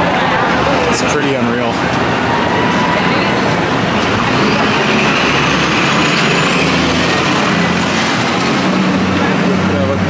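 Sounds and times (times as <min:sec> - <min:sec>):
city street traffic: 0:00.0 - 0:10.0
truck engine running: 0:01.6 - 0:10.0.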